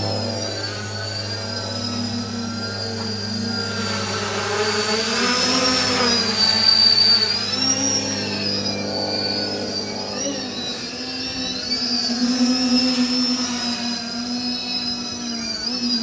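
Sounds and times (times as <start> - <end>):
drone motors whirring: 0.0 - 16.0.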